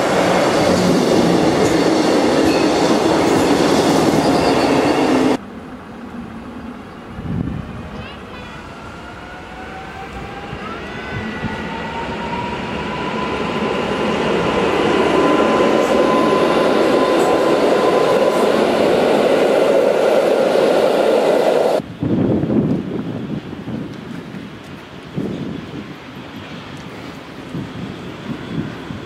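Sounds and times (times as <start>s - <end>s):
wheels rumbling on rails: 0.0s - 29.0s.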